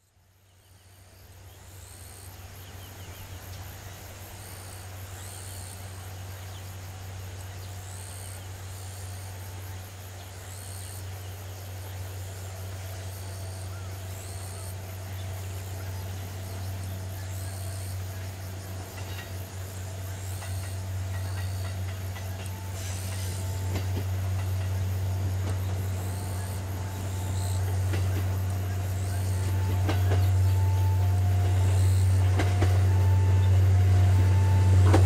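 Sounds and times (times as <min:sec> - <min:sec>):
distant diesel railcar engine drone: 0:00.0 - 0:35.0.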